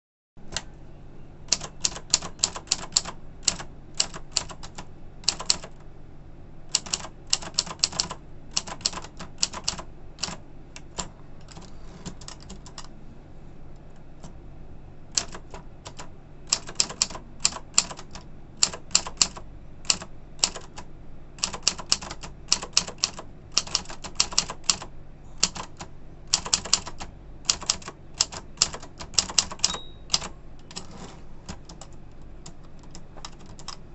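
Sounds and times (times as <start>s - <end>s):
low steady hum: 0.4s - 33.9s
typewriter typing: 1.5s - 5.8s, 6.7s - 12.9s, 15.1s - 20.8s, 21.4s - 33.8s.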